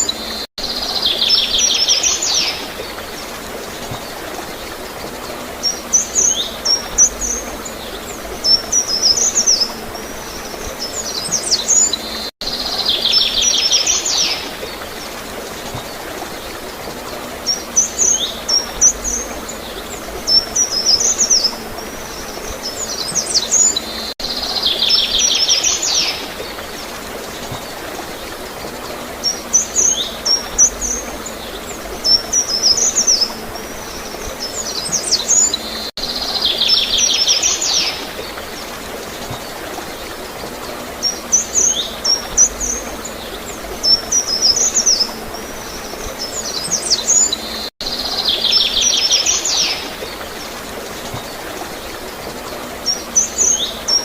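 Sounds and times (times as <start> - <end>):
flowing water hiss: 0.0 - 54.0
songbirds chirping: 0.0 - 54.0.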